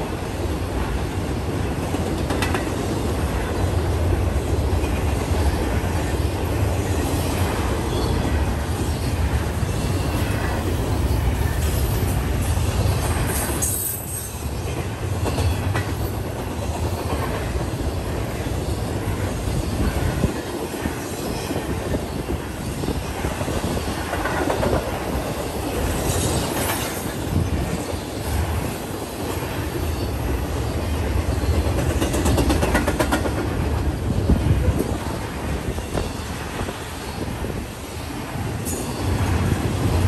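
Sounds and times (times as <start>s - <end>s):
clickety-clack over rail joints: 0.0s - 40.0s
steel wheels rumbling on rail: 0.0s - 40.0s.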